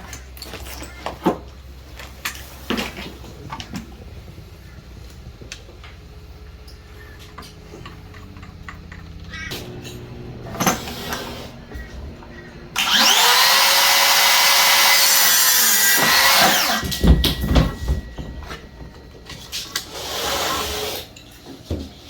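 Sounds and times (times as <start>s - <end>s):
low steady hum: 0.0s - 15.3s, 16.0s - 20.0s.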